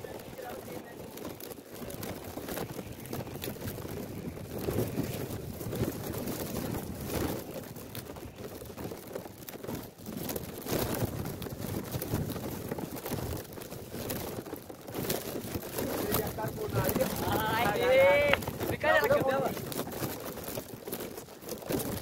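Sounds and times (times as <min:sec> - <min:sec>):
crinkly rustling on microphone: 0:00.0 - 0:22.0
wind buffeting microphone: 0:00.0 - 0:22.0.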